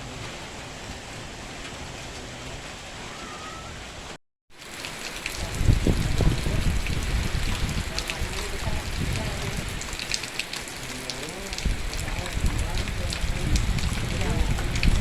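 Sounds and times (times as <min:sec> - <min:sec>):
heavy raindrops spattering: 0:00.0 - 0:15.0
rain hissing: 0:00.0 - 0:15.0.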